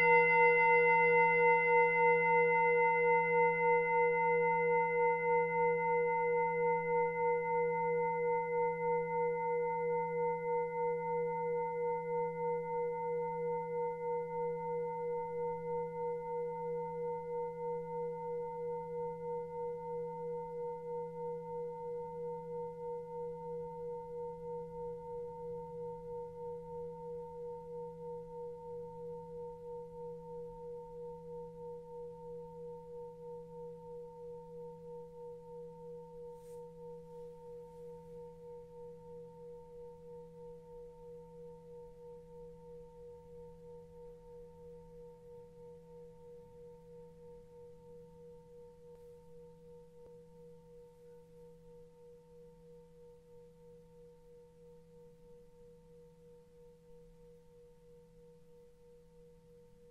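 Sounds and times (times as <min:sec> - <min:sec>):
singing bowl ringing: 0:00.0 - 0:58.6.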